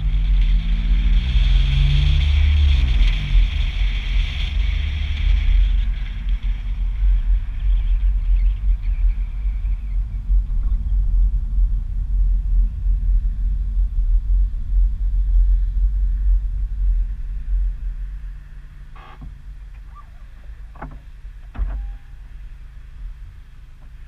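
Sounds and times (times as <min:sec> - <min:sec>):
low steady hum: 0:00.0 - 0:24.0
wind buffeting microphone: 0:00.0 - 0:24.0.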